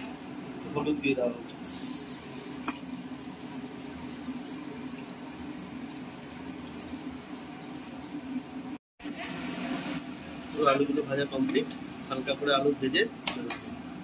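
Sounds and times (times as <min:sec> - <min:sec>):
potatoes frying in oil: 0:00.0 - 0:14.0.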